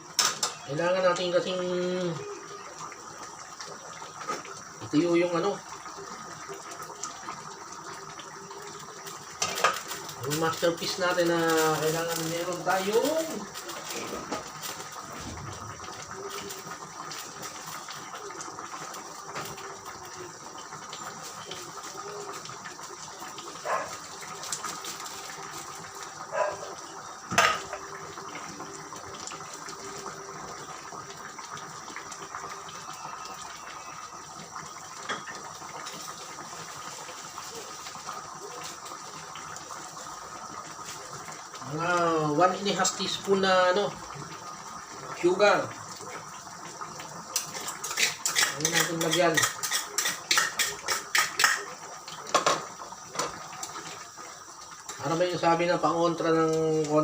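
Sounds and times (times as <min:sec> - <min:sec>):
pot simmering with bubbling hiss: 0:00.0 - 0:57.0.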